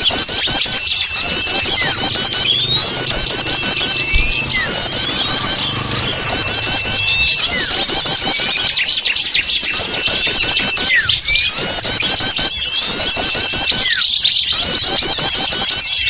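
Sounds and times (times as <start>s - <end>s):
small birds chattering: 0.0s - 16.0s.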